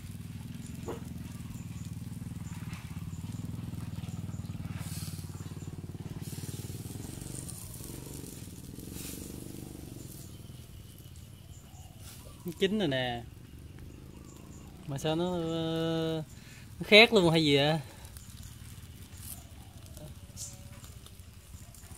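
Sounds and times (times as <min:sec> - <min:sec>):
small engine idling: 0:00.0 - 0:21.9.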